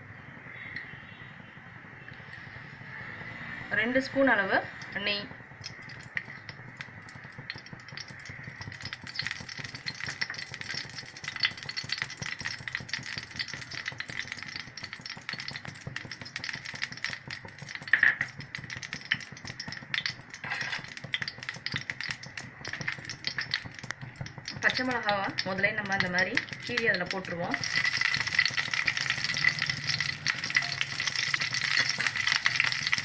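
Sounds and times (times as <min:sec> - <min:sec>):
oil sizzling in a pan: 0:04.0 - 0:33.0.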